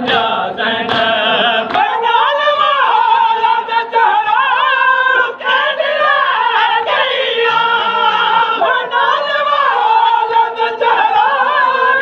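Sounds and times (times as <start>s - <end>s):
men singing unaccompanied: 0.0s - 12.0s.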